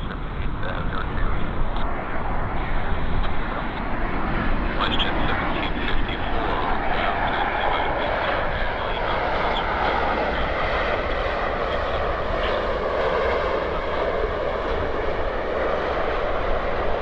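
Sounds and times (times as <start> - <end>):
jet engines rushing: 0.0 - 17.0
wind rumble on microphone: 0.0 - 17.0.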